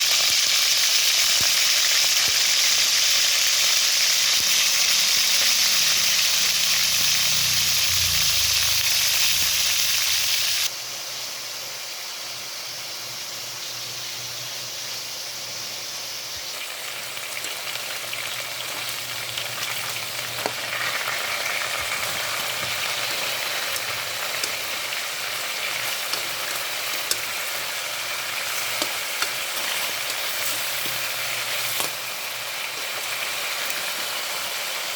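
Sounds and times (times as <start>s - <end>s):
food sizzling in hot oil: 0.0s - 34.9s.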